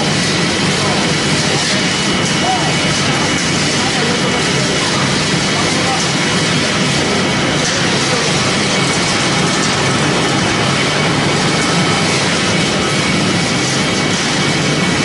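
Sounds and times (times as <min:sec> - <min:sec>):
wood-processing machinery running: 0:00.0 - 0:15.0.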